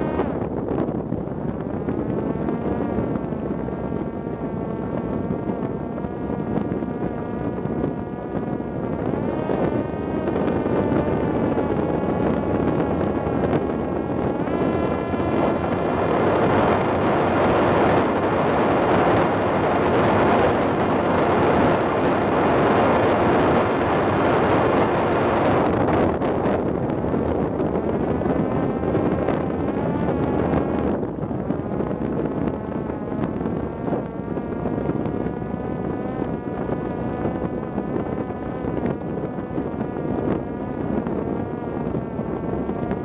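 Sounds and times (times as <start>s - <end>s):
electric motor and propeller whine: 0.0s - 43.0s
rushing wind: 0.0s - 43.0s.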